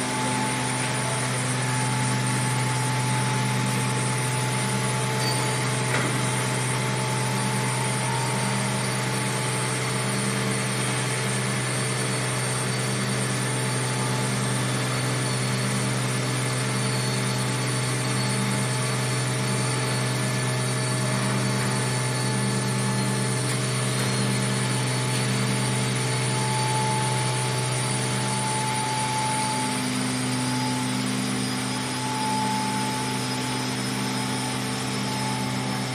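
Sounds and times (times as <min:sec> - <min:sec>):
machinery droning with throb: 0:00.0 - 0:35.9.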